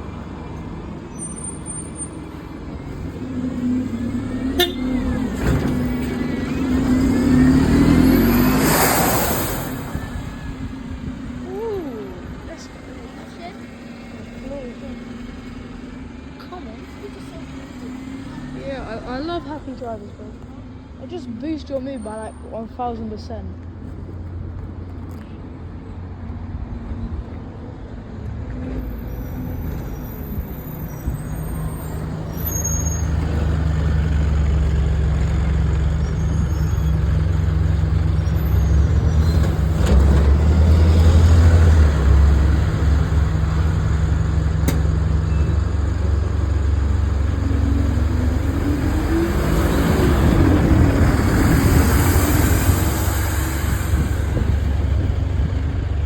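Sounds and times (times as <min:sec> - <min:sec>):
bus engine rumbling: 0:00.0 - 0:56.0.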